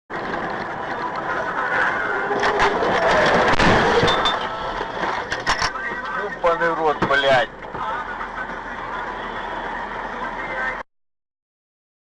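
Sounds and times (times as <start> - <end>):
road and vehicle noise: 0.1 - 10.9.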